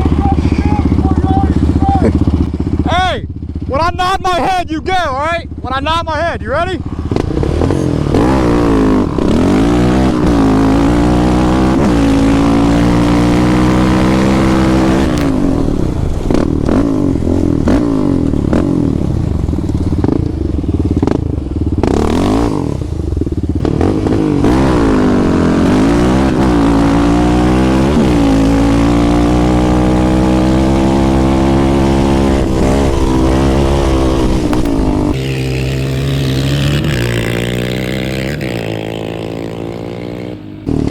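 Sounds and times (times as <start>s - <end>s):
off-road vehicle engine accelerating: 0.0s - 40.9s.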